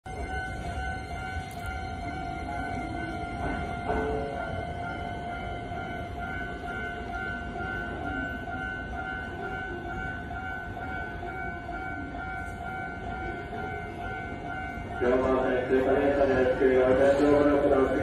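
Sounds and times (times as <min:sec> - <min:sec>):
pulsing electronic warning tone: 0:00.1 - 0:18.0.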